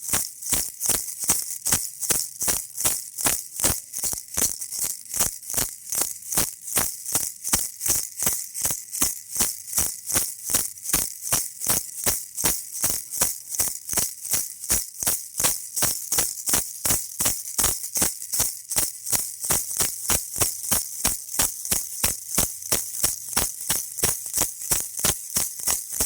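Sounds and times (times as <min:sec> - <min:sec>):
baby rattle shaking: 0:00.0 - 0:26.0.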